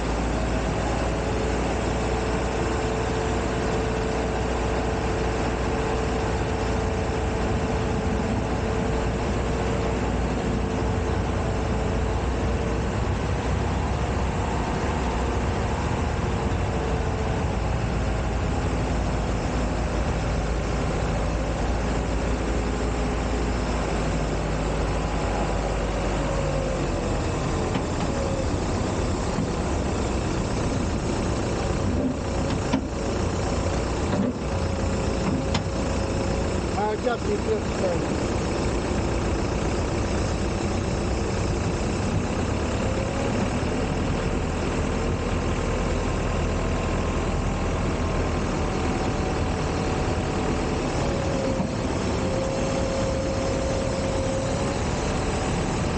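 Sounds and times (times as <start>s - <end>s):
ramp machinery humming: 0.0s - 55.9s.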